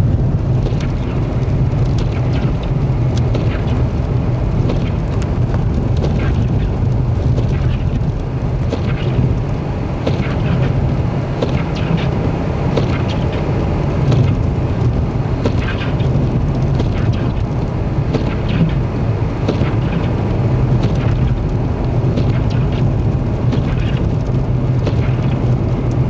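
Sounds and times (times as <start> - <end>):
vehicle driving rumble: 0.0 - 26.0.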